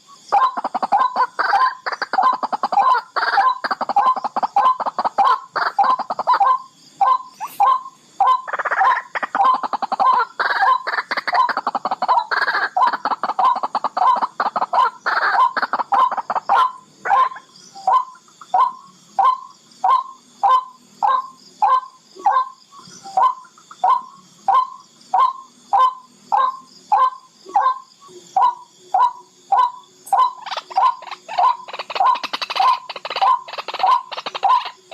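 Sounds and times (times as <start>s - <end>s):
bird ticking calls: 0.0s - 34.9s.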